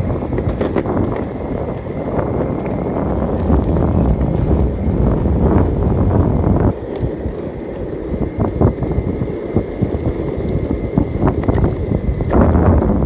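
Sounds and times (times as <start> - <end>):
skateboard wheels rolling on asphalt: 0.0 - 13.0
wind buffeting microphone: 0.0 - 13.0.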